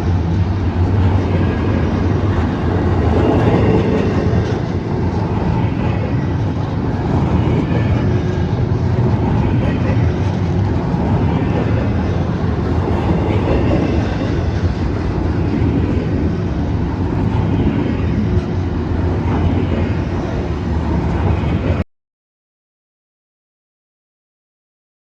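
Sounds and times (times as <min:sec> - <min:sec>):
train rumbling by: 0:00.0 - 0:21.8.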